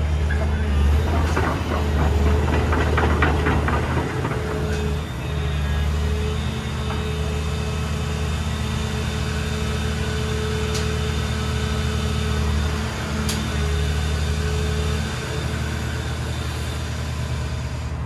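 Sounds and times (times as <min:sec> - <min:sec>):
excavator diesel engine running: 0:00.0 - 0:18.0
hydraulic whine: 0:00.0 - 0:18.0.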